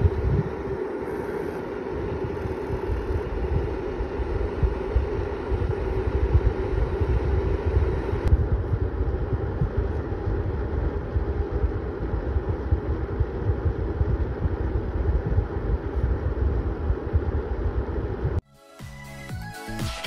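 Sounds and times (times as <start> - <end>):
cooling fan running: 0.0 - 18.4.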